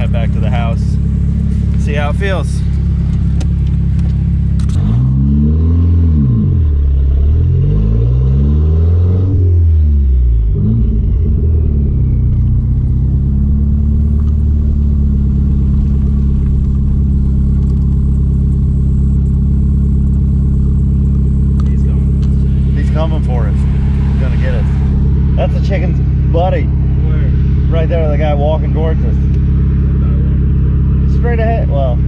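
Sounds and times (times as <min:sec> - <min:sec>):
car engine driving: 0:00.0 - 0:32.0.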